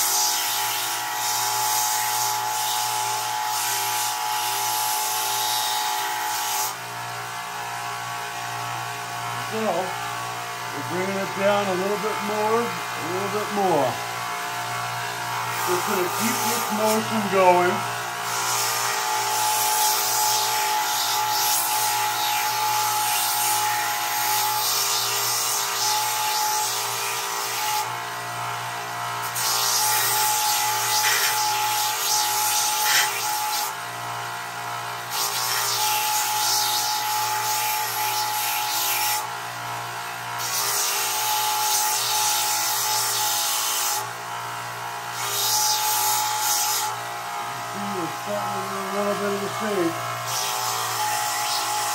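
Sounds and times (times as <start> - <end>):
grinder motor hum: 0.0 - 51.9.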